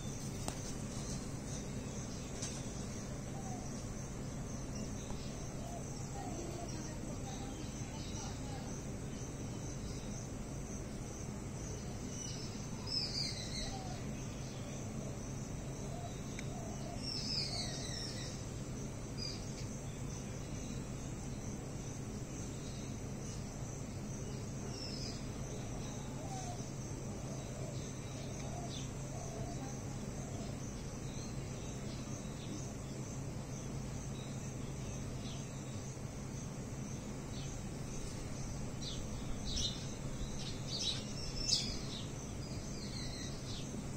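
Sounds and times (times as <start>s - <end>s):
insects trilling: 0.0s - 43.9s
low steady hum: 0.0s - 43.9s.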